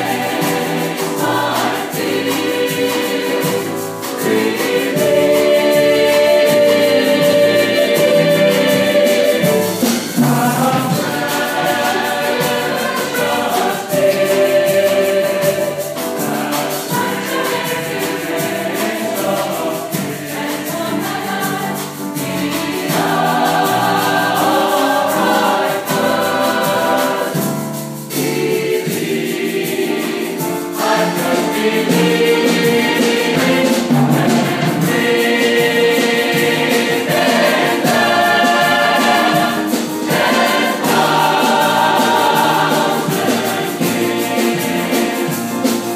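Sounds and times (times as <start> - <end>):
choir singing gospel song: 0.0 - 45.9
light percussion beat: 0.0 - 45.9.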